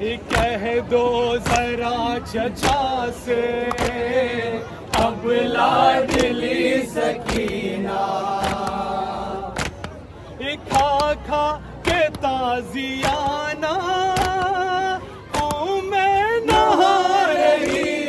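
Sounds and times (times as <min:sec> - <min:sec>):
group of voices chanting: 0:00.2 - 0:12.2, 0:14.2 - 0:18.0
sharp rhythmic beats: 0:00.2 - 0:18.0.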